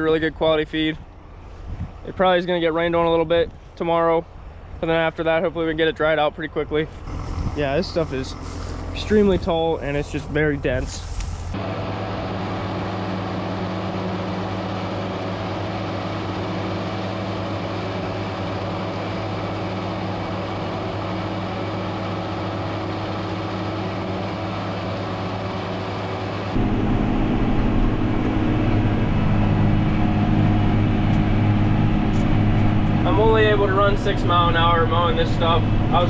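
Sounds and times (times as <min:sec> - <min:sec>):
tractor engine droning under load: 0:00.0 - 0:36.0.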